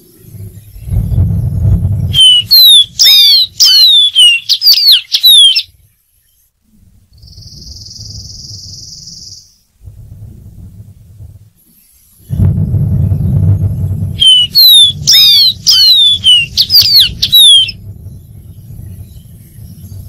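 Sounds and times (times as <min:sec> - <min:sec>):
bird whistling song: 0:00.0 - 0:06.5, 0:07.1 - 0:09.6, 0:11.6 - 0:20.0.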